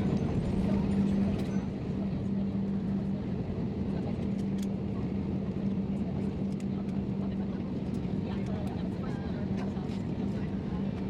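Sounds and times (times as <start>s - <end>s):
airliner engines and airflow rumble: 0.0s - 11.0s
constant low hum: 0.0s - 11.0s.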